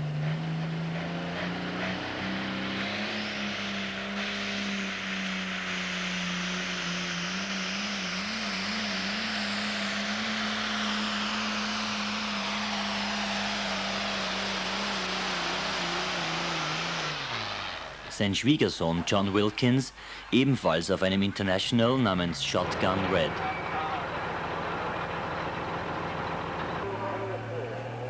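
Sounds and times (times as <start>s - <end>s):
diesel engine high drone: 0.0s - 28.0s.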